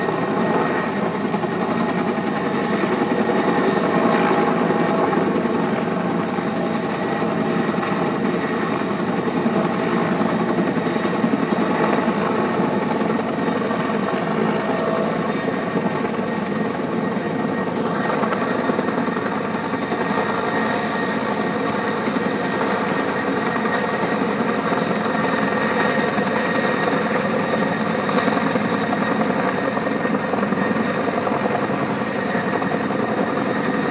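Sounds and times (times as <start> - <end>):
helicopter rotor beat: 0.0 - 33.9.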